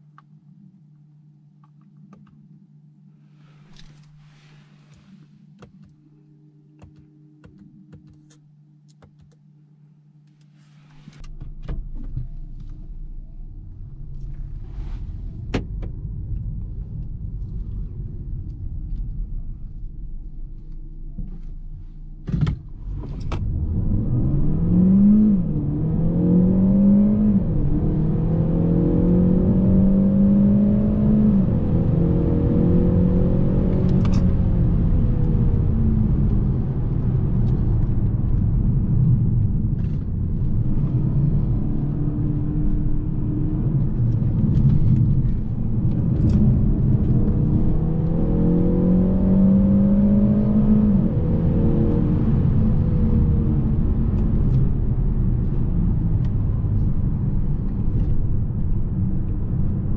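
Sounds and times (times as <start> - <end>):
car engine accelerating: 10.8 - 59.9.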